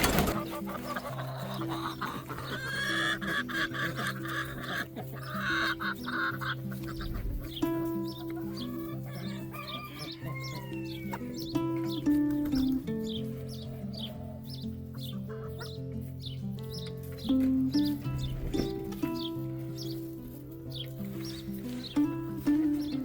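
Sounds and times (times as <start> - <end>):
background music with low notes: 0.0 - 23.0
chickens clucking: 0.0 - 23.0.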